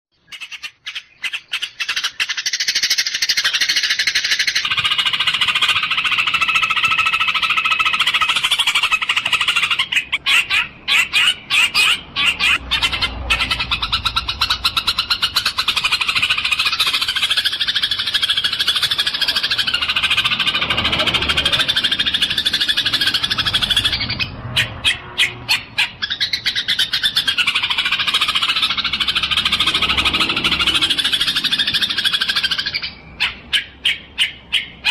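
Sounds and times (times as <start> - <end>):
sparrows chirping: 0.1 - 34.9.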